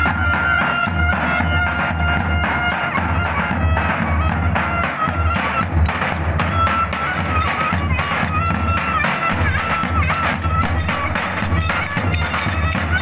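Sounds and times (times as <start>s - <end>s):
reedy wind instrument melody: 0.0s - 13.0s.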